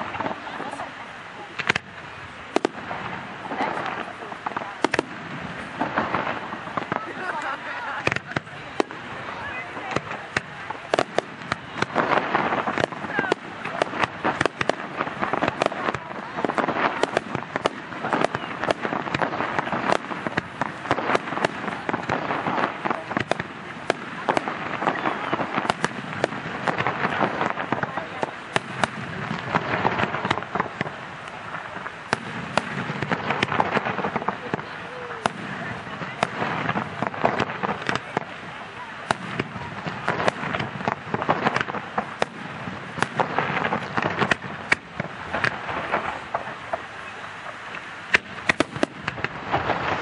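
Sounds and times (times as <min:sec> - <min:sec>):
noisy fireworks display background: 0:00.0 - 0:50.0
firework shells bursting: 0:01.5 - 0:50.0.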